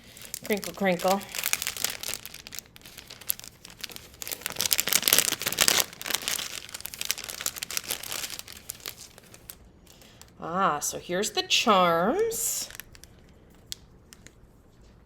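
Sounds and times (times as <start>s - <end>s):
plastic packaging crinkling: 0.0s - 10.3s, 12.6s - 14.4s.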